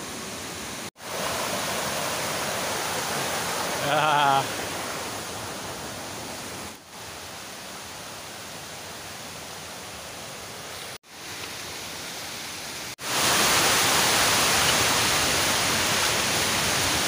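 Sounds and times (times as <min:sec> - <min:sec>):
water rushing at small waterfall: 0:00.0 - 0:17.0.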